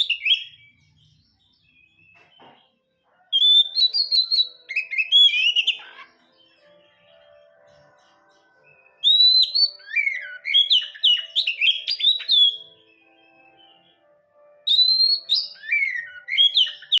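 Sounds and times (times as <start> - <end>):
bird singing whistled notes: 0.0 - 17.0.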